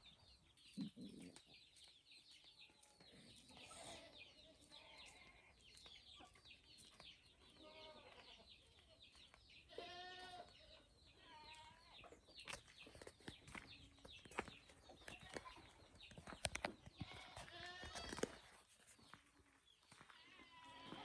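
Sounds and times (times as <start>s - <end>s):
farm animals calling: 0.0s - 1.6s, 3.0s - 19.2s, 19.9s - 21.0s
small birds chirping: 0.0s - 21.0s.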